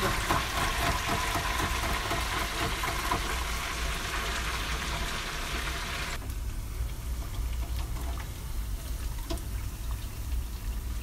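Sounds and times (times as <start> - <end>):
plantain sizzling in hot oil: 0.0 - 11.0.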